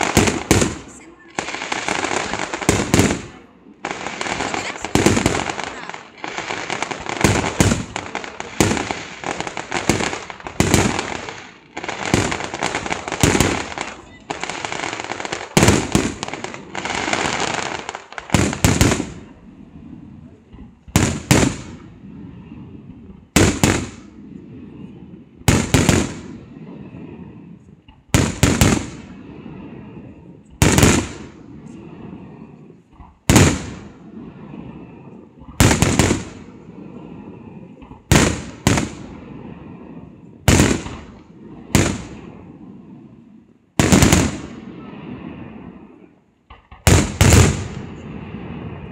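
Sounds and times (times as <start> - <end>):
fireworks bangs with echo: 0.0 - 43.1, 43.7 - 48.9
fireworks crackling: 0.0 - 48.9.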